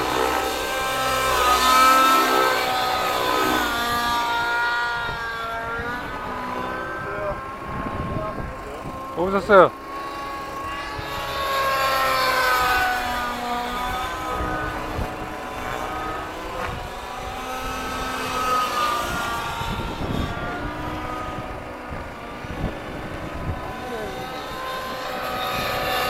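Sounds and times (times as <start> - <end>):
rc helicopter engine and rotor: 0.0 - 26.0.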